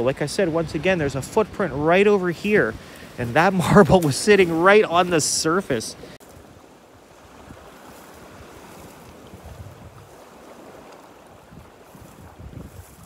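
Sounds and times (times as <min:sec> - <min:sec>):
small waves on pebbly shore: 0:00.0 - 0:13.0
wind gusting on microphone: 0:00.0 - 0:13.0.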